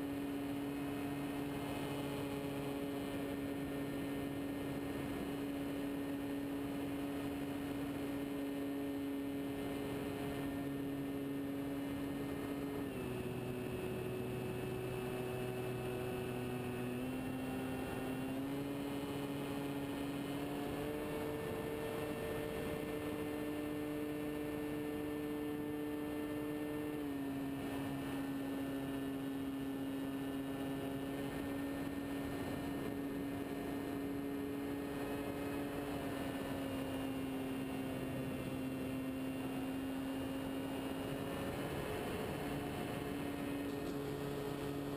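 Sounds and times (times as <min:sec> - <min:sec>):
model plane motor and propeller hum: 0:00.0 - 0:44.9.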